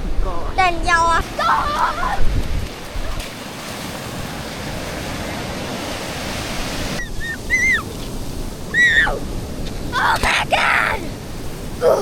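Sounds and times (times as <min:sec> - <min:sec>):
sea waves washing onto beach: 0:00.0 - 0:12.0.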